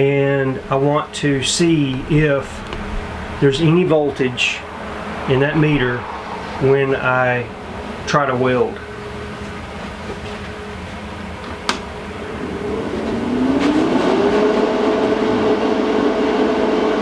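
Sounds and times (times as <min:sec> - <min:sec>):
welder fan running: 0:00.0 - 0:17.0.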